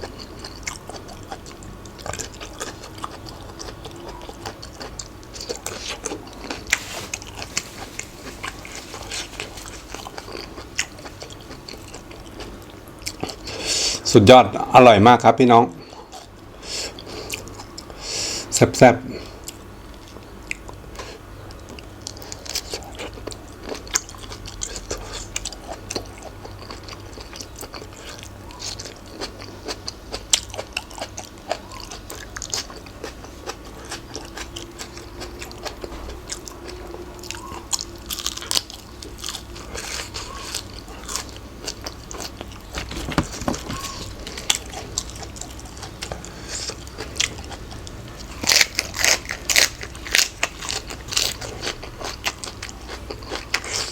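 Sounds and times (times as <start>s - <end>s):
person chewing crunchy food: 0.0s - 14.0s, 15.8s - 18.1s, 19.2s - 53.9s.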